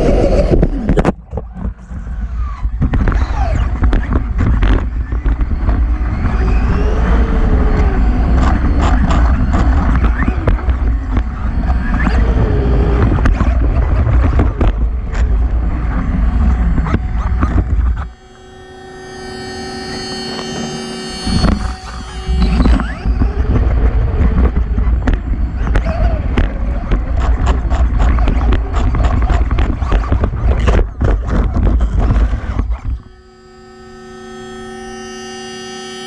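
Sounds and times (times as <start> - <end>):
wind and tyre rumble: 0.0 - 18.2, 21.3 - 33.1
electric motor whine: 0.0 - 36.0.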